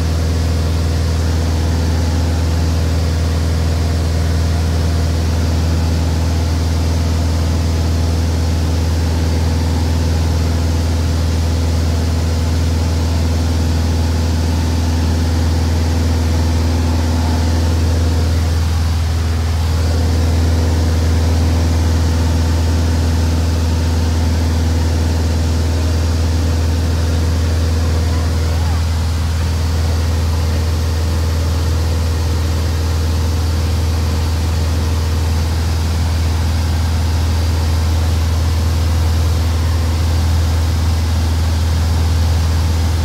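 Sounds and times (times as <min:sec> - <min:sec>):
aircraft engine droning: 0:00.0 - 0:43.0.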